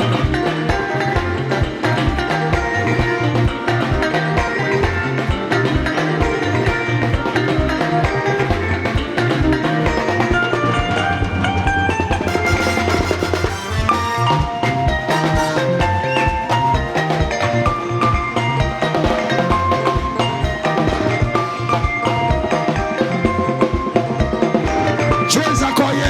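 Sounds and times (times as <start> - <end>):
bass: 0.0 - 26.0
drum kit beat: 0.0 - 26.0
guitar: 0.0 - 26.0.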